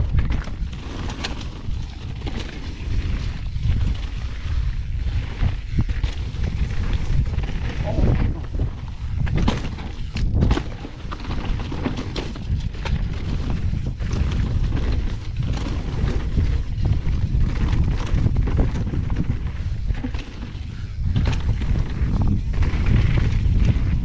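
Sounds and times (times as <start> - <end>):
bike knocks and rattles: 0.0 - 24.0
bike tyres rumbling on dirt: 0.0 - 24.0
wind on microphone: 0.0 - 24.0.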